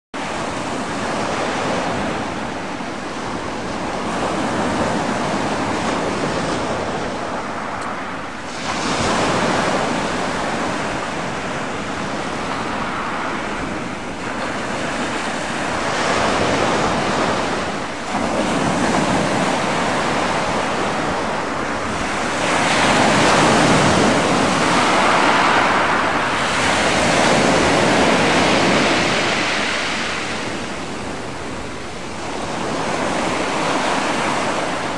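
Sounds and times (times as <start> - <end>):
sea water washing and sloshing: 0.2 - 34.9
wind buffeting microphone: 0.2 - 34.9.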